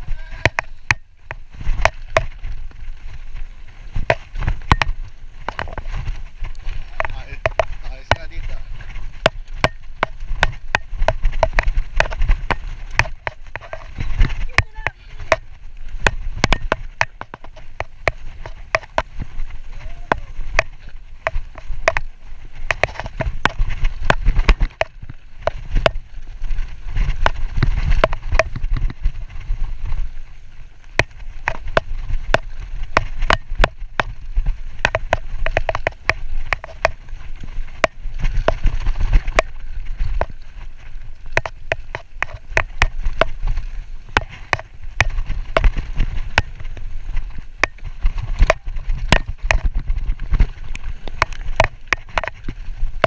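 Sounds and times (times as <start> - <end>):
bike clacking and rattling: 0.0 - 53.0.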